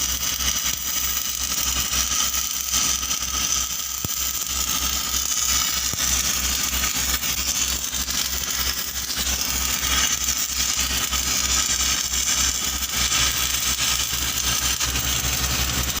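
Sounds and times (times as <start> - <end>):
arc welding crackling hiss: 0.0 - 16.0
engine running: 0.0 - 16.0.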